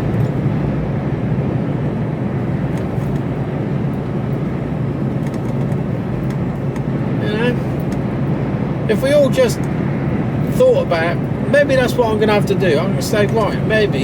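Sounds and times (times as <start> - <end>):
lorry engine drone: 0.0 - 14.0.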